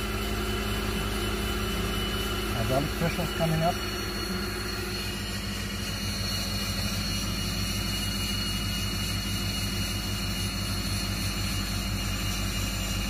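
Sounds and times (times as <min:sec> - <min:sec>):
low pulsing drone: 0:00.0 - 0:13.0
turboprop engine whine: 0:00.0 - 0:13.0.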